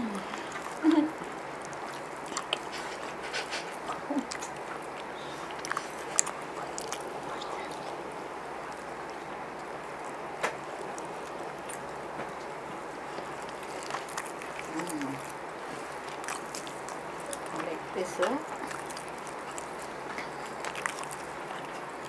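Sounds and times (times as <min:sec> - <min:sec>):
background hiss: 0:00.0 - 0:22.0
people chewing: 0:00.0 - 0:22.0
mouth smacks and clicks: 0:00.1 - 0:22.0.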